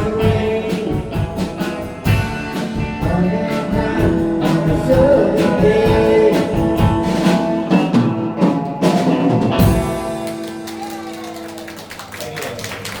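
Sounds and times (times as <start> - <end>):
live rock band playing: 0.0 - 12.1.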